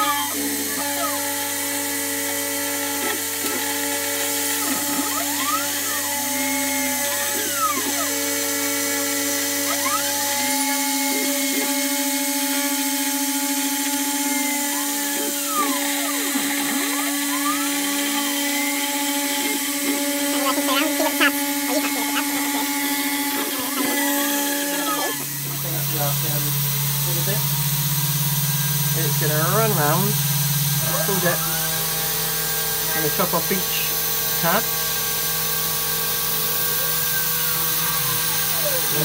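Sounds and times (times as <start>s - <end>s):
spindle whine: 0.0s - 34.0s
router cutting aluminium: 0.0s - 39.0s.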